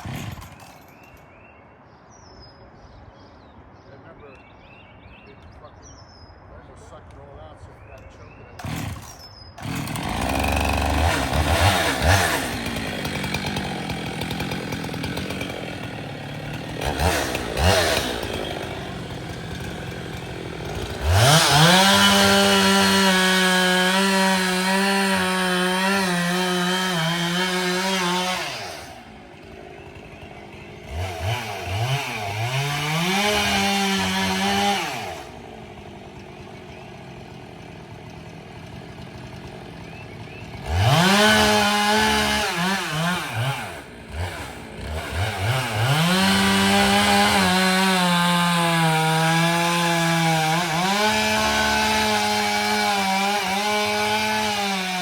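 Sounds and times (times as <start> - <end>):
chainsaw cutting wood: 0.0 - 1.4, 8.5 - 55.0.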